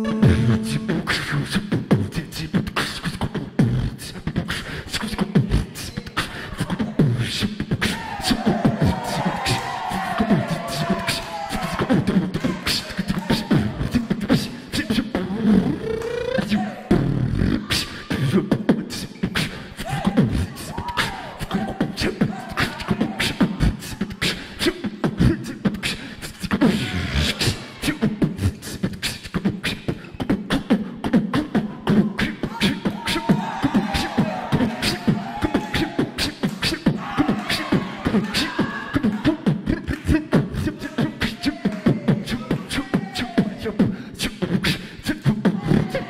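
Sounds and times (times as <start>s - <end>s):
person beatboxing: 0.0s - 46.0s
vocal glides: 0.0s - 46.0s.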